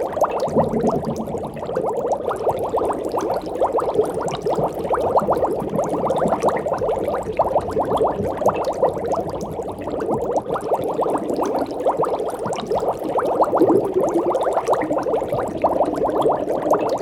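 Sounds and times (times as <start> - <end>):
aquarium bubbles gurgling: 0.0 - 17.0.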